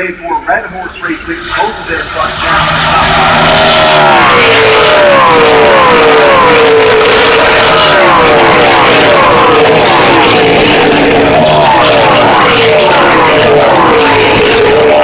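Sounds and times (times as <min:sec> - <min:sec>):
racing trucks passing at full throttle: 0:00.4 - 0:15.0.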